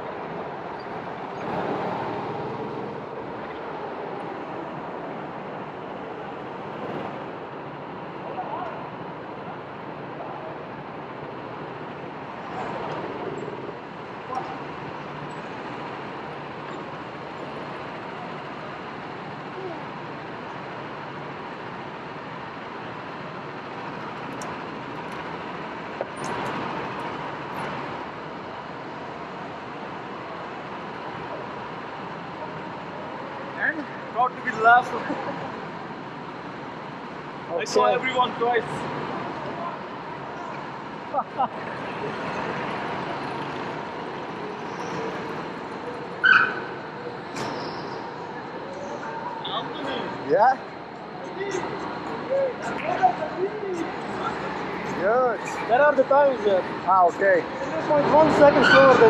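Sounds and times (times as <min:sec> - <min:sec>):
go-karts running: 0:00.0 - 0:59.0.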